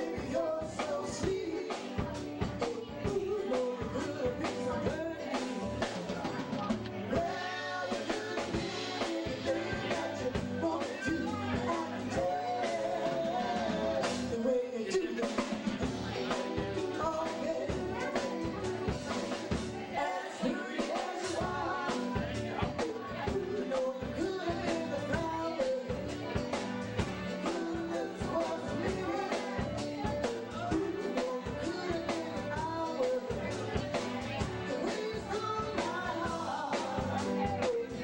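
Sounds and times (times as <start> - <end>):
drum kit: 0.0 - 38.0
electric bass guitar: 0.0 - 38.0
vocalists singing: 0.0 - 38.0.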